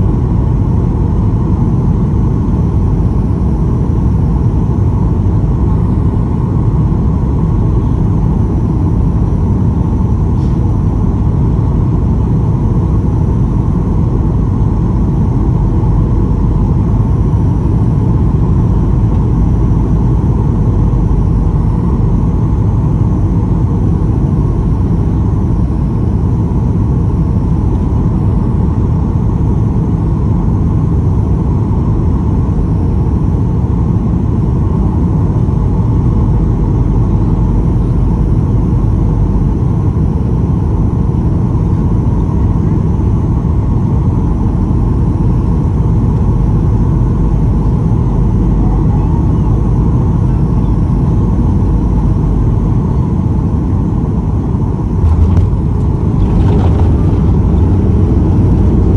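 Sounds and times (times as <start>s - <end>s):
engine and airflow rumble: 0.0s - 58.9s
faint steady hum: 0.0s - 58.9s.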